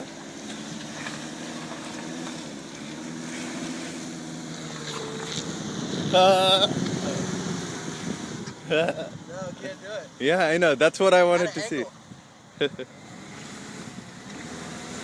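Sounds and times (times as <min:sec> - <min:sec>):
car engine running under load: 0:00.0 - 0:10.8, 0:12.0 - 0:15.0.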